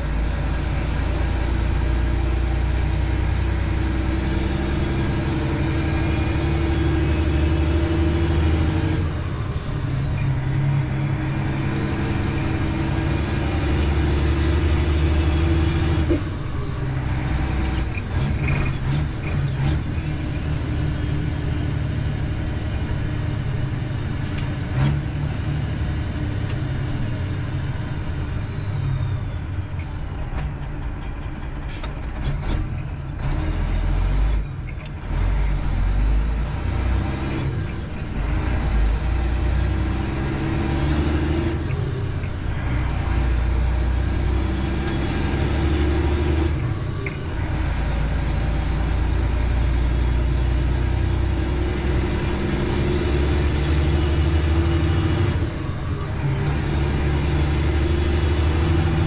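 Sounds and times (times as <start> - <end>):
truck diesel engine droning: 0.0 - 59.0.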